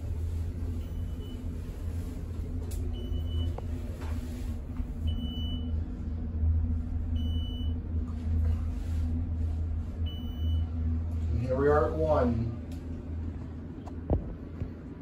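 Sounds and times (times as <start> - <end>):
elevator hum and rumble: 0.0 - 15.0.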